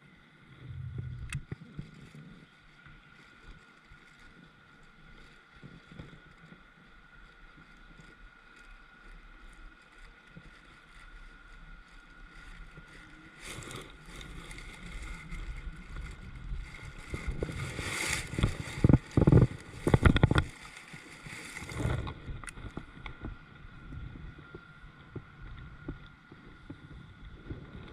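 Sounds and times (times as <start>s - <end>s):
water rustling and sloshing: 0.0s - 27.9s.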